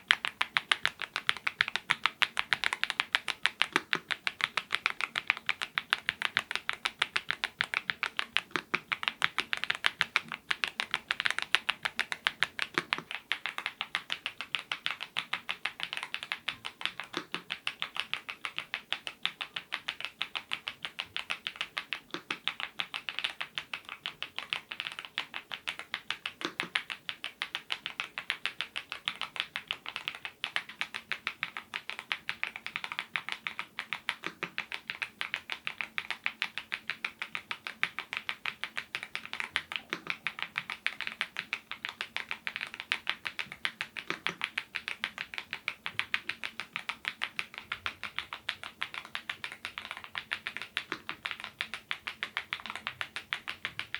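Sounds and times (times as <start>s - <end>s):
mechanical keyboard typing: 0.0s - 53.9s.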